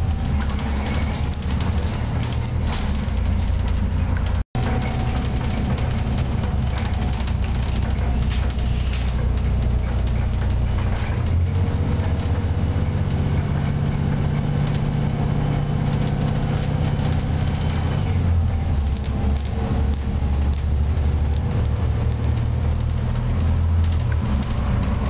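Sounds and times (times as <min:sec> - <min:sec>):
bus diesel engine drone: 0:00.0 - 0:25.0
road noise: 0:00.0 - 0:25.0.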